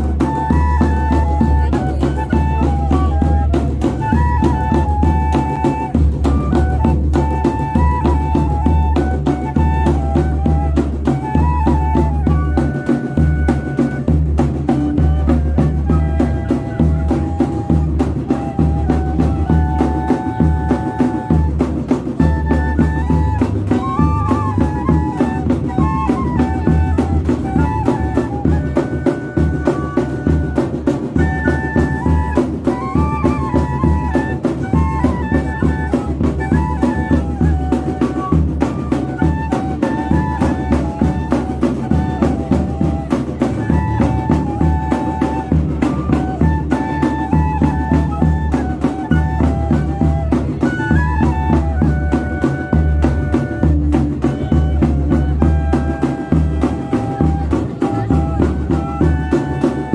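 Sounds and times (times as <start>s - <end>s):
bass drum and snare beat: 0.0s - 59.9s
fife melody: 0.0s - 59.9s.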